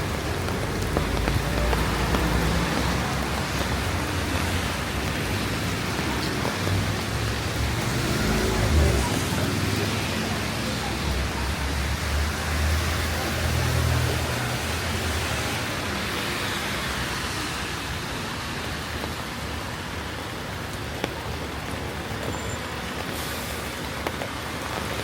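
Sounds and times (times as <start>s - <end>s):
steady rain hissing: 0.0s - 25.0s.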